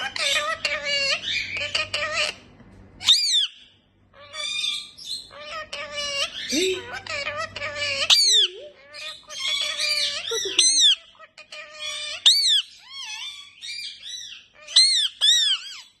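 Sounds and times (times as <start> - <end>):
parrots chattering calls: 0.0 - 16.0.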